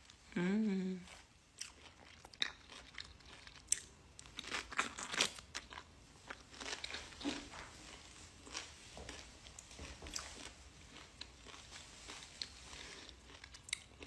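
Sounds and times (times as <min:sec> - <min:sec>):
person biting and chewing fruit: 0:01.1 - 0:14.0.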